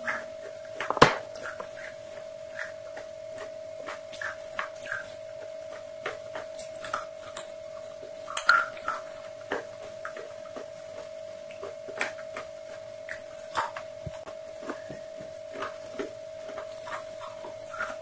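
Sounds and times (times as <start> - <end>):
steady humming tone: 0.0 - 18.0
chewing crispy fried chicken: 1.3 - 18.0.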